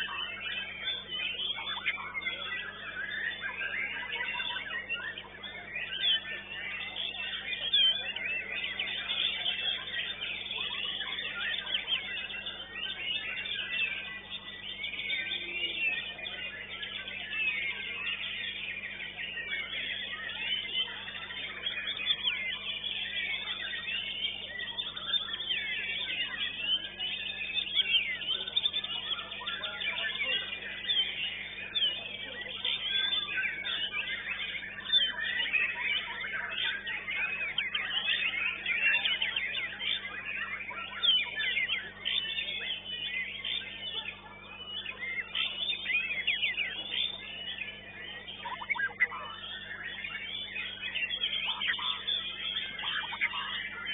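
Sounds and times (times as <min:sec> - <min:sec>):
bird singing whistles and trills: 0:00.0 - 0:53.9
songbirds singing: 0:00.0 - 0:53.9.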